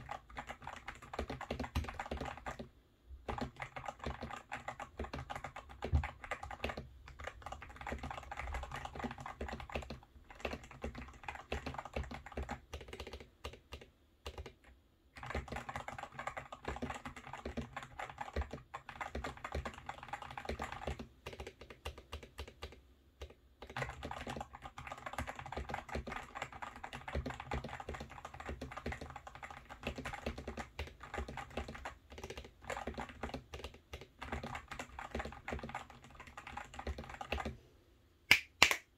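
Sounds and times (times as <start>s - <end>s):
mechanical keyboard typing: 0.0s - 37.6s.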